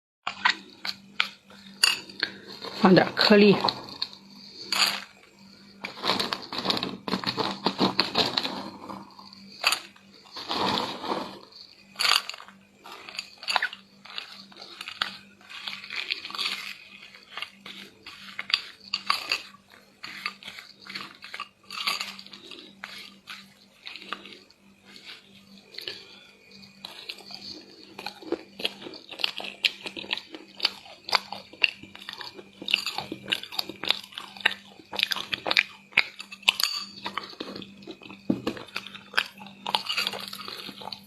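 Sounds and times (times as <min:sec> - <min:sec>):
chewing crunchy chocolate: 0:00.3 - 0:41.0.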